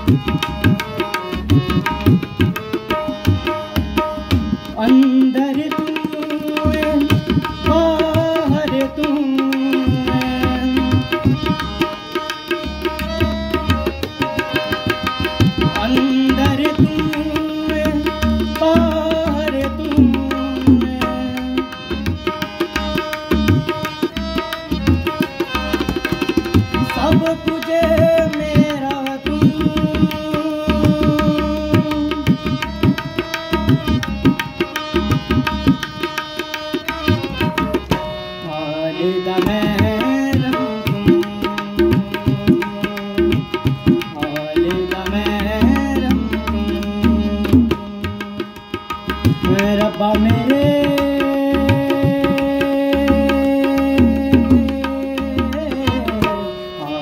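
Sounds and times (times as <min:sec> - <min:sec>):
tabla strokes: 0:00.0 - 0:38.4, 0:39.3 - 0:56.9
harmonium chords: 0:00.0 - 0:57.0.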